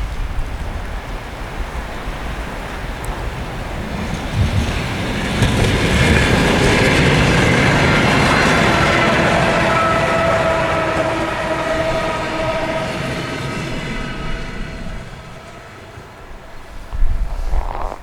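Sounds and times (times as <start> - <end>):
train passing on rails: 0.0 - 18.0.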